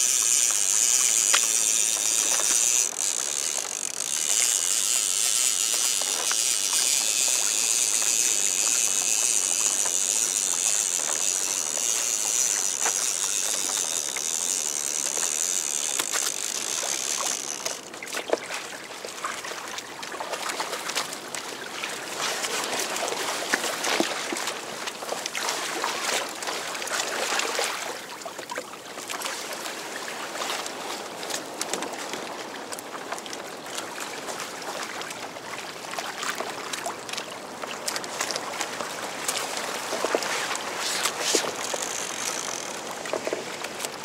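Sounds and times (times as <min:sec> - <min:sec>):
water splashing along kayak hull: 0:00.0 - 0:44.0.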